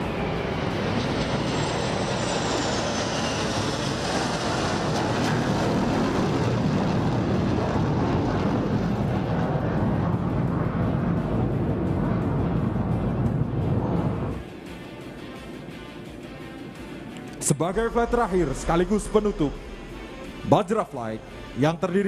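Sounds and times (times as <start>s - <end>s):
jet engines flying past: 0.0s - 22.0s.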